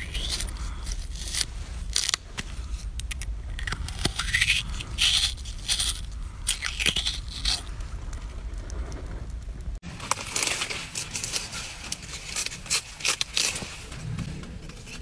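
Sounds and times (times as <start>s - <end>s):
melon baller scraping radish: 0.0s - 7.8s, 9.9s - 15.0s.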